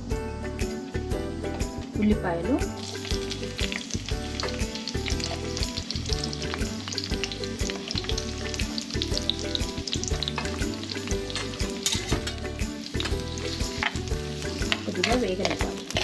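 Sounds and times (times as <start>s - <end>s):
background music: 0.0s - 16.0s
onions sizzling in hot oil: 2.6s - 16.0s.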